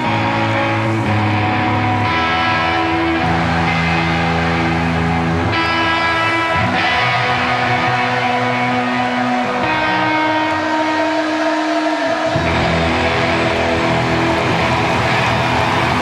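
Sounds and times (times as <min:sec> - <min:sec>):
rock band playing live: 0:00.0 - 0:16.0.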